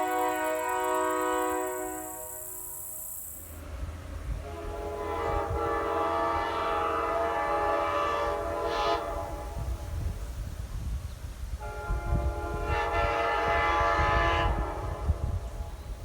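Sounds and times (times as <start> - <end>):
train horn chord: 0.0 - 2.8, 3.6 - 10.2, 11.6 - 16.0.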